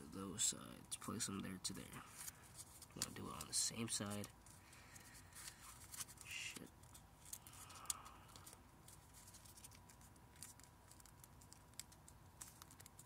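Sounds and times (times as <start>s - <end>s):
paper crinkling and creasing: 2.0s - 13.0s.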